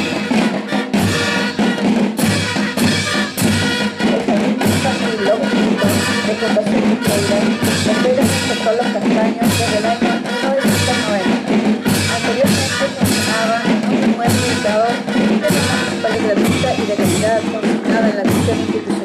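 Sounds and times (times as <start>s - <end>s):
marching percussion band: 0.0s - 19.0s.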